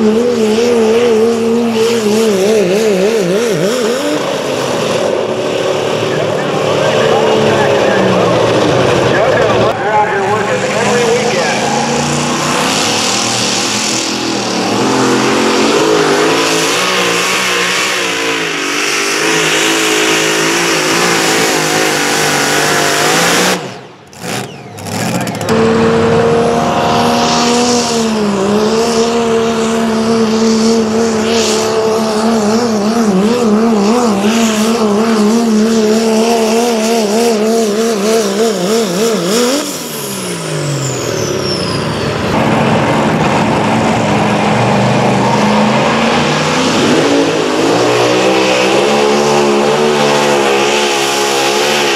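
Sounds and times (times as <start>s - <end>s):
pulling engine running hard: 0.0s - 51.9s.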